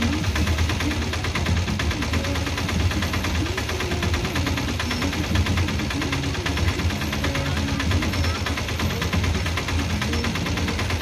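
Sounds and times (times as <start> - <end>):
low rumble of wagons: 0.0 - 11.0
wagon wheels clattering over points: 0.0 - 11.0.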